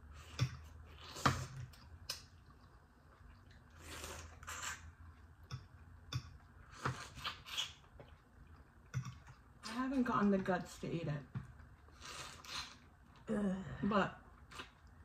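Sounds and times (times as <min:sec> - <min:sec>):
soft chewing: 0:00.0 - 0:09.7, 0:10.3 - 0:13.3, 0:14.2 - 0:15.0.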